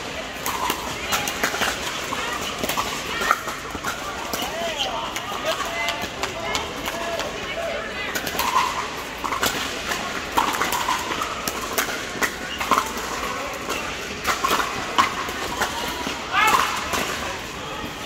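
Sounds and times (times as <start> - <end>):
paddles hitting plastic balls: 0.0 - 17.6.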